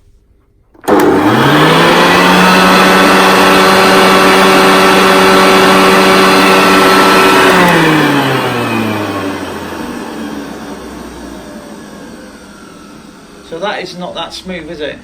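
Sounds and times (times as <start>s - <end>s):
vacuum cleaner motor humming: 0.8s - 15.0s.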